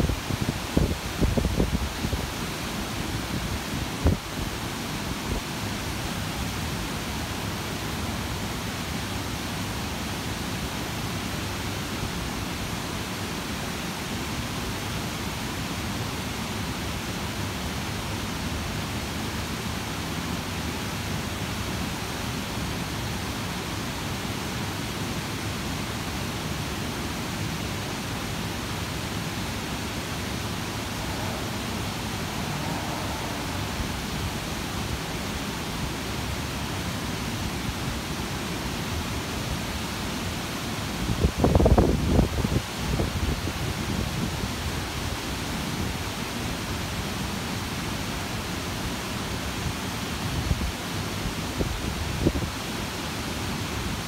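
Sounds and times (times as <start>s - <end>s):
water cascading down steps: 0.0s - 54.0s.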